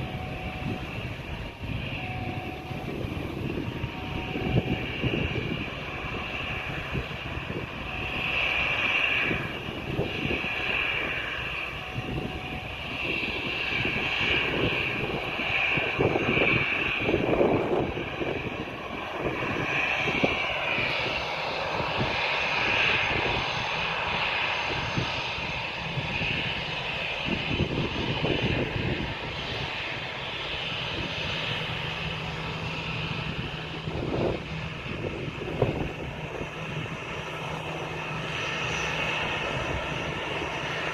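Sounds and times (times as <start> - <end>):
airliner engines whining: 0.0 - 40.9
wind buffeting microphone: 0.0 - 40.9.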